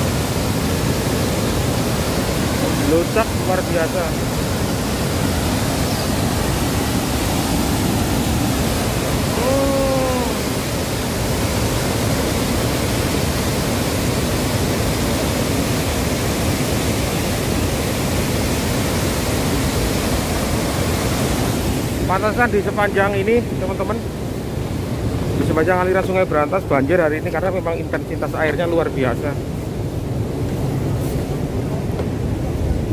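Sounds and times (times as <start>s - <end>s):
swift water rushing through dam gates: 0.0s - 32.9s.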